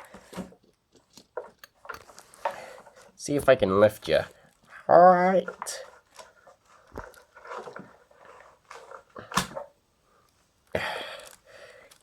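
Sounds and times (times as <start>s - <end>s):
plastic toys rustling and clattering: 0.0s - 10.4s.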